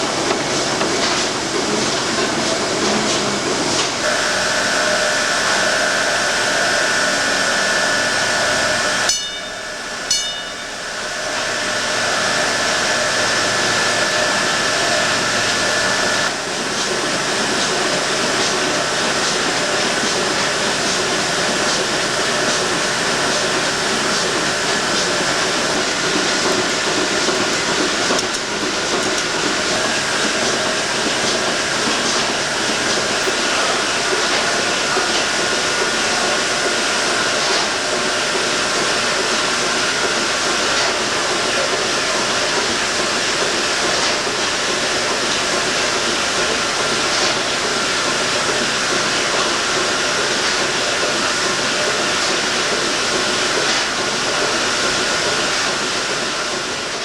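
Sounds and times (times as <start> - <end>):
machinery noise with hiss: 0.0 - 57.0.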